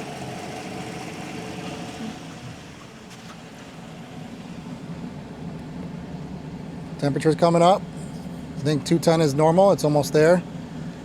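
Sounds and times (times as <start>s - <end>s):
pickup truck engine idling: 0.0s - 11.0s.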